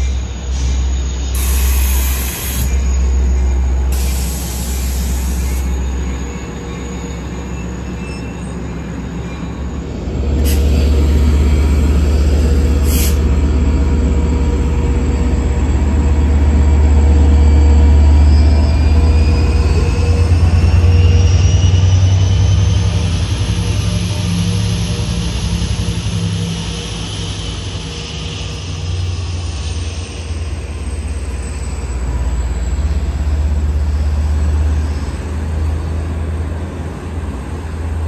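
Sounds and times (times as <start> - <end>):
diesel locomotive engine: 0.0 - 38.0
train rumbling past: 0.0 - 38.0.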